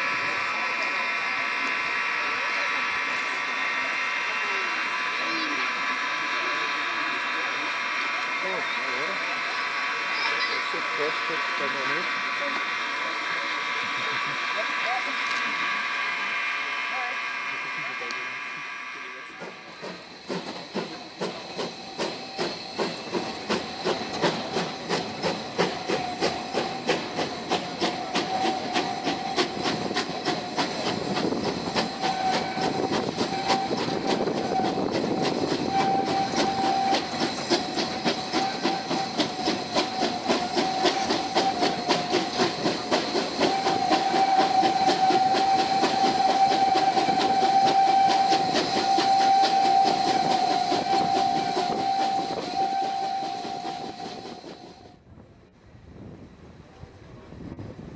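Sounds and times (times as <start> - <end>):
steady high-pitched tone: 0.0 - 50.4
steam locomotive exhaust chuffs: 0.0 - 57.9.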